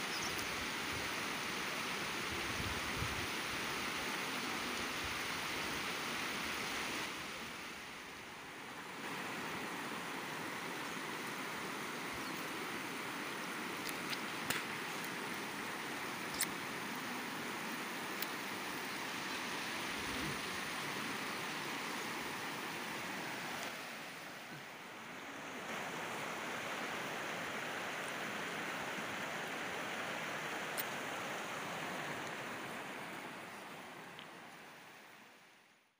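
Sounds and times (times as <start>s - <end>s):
river rushing over boulders: 0.0s - 35.8s.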